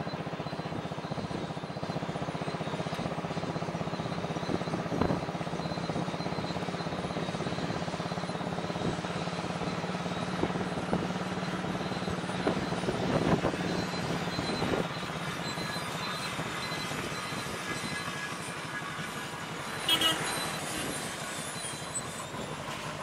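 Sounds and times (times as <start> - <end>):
road noise: 0.0 - 23.0
vehicle engine running: 0.0 - 23.0.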